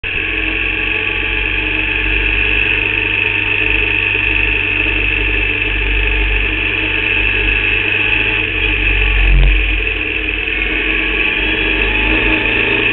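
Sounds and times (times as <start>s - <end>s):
racing car engine running: 0.0s - 12.9s.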